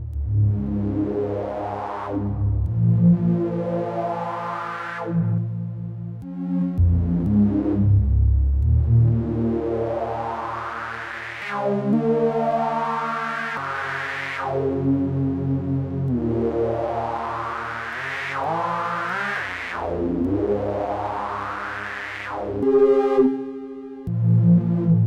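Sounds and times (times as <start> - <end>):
analogue synthesizer chords: 0.0 - 25.0.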